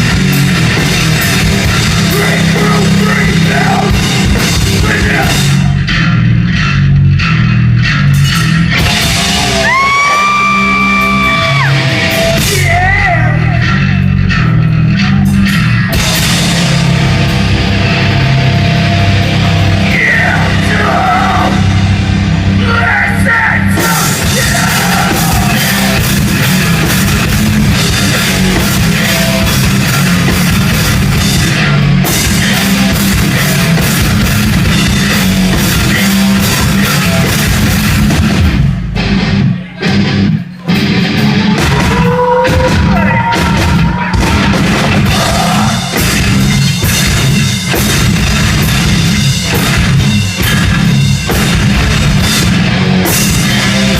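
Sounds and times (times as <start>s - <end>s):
heavy rock band playing: 0.0s - 53.9s.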